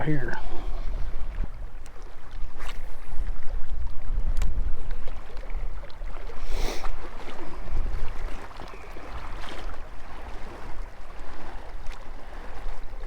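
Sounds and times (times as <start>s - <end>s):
water lapping at shore: 0.0s - 13.0s
wind buffeting microphone: 0.0s - 13.0s.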